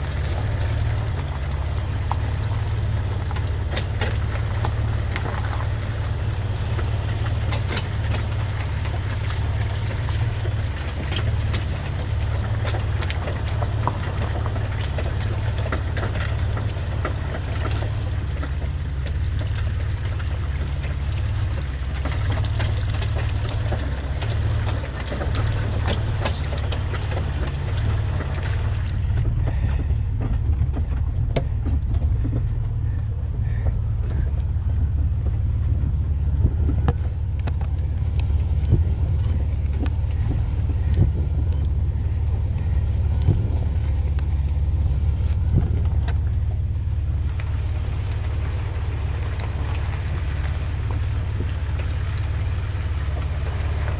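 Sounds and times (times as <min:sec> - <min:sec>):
vehicle engine drone: 0:00.0 - 0:53.9
water splashing: 0:00.0 - 0:53.9.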